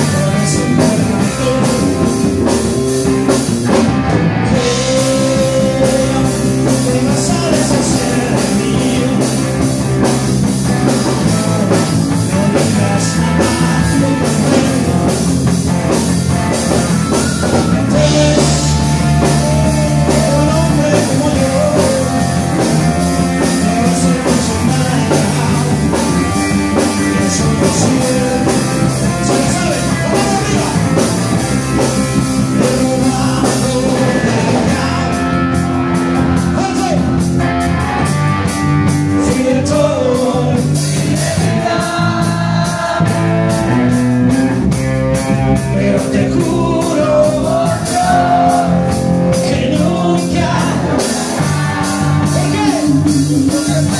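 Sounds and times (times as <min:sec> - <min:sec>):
man singing into a microphone: 0:00.0 - 0:02.7, 0:04.5 - 0:10.1, 0:10.8 - 0:15.3, 0:17.0 - 0:35.6, 0:36.5 - 0:37.2, 0:39.1 - 0:43.8, 0:45.3 - 0:53.9
drum kit: 0:00.0 - 0:53.9
electric bass: 0:00.0 - 0:53.9
electric guitar: 0:00.0 - 0:53.9.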